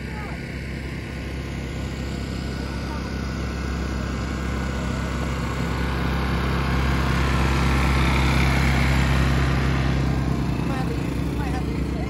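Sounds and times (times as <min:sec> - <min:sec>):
portable generator running: 0:00.0 - 0:12.0.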